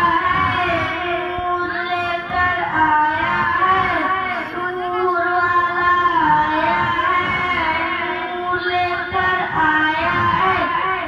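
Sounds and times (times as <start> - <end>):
boy singing into a microphone: 0.0 - 11.0.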